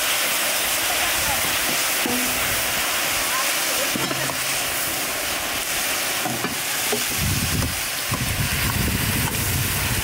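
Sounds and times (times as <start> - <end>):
olives sizzling in oil: 0.0 - 10.0.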